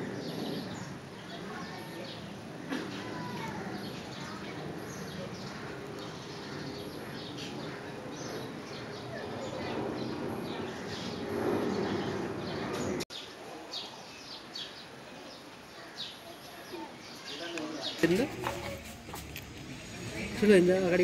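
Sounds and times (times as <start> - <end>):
background murmur: 0.0 - 21.0.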